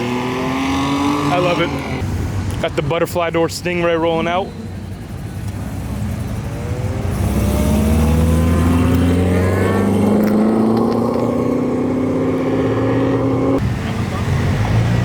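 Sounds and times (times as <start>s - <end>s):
car engine pulling away: 0.0s - 2.6s, 4.5s - 15.0s.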